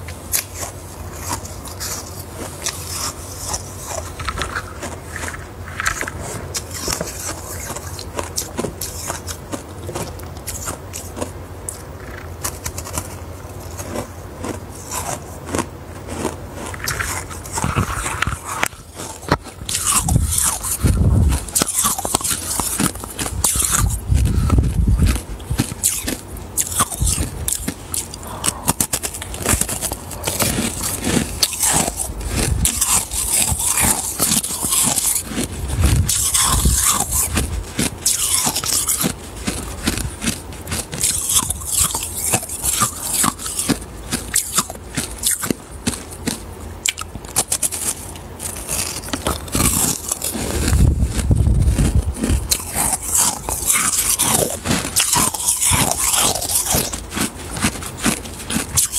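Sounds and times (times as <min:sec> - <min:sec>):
ice crunching in mouth: 0:00.0 - 0:58.9.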